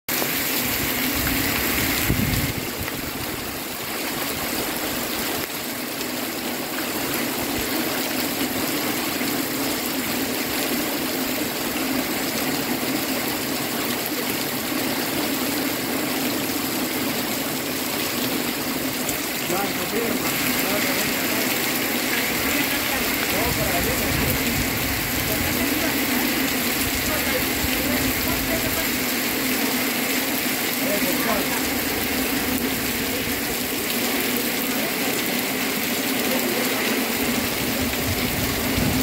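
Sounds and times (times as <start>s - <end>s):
heavy rain falling: 0.1s - 39.0s
water streaming off roof: 0.1s - 39.0s.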